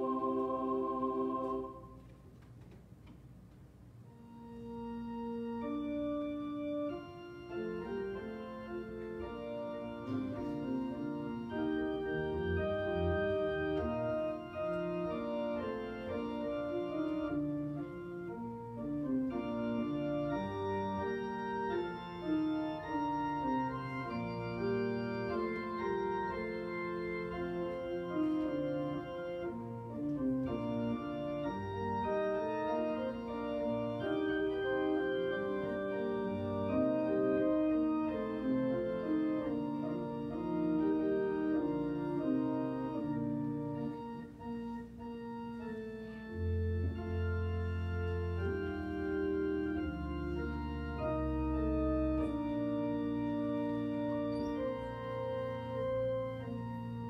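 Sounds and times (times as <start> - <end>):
organ playing slow chords: 0.0 - 2.2, 3.9 - 57.0.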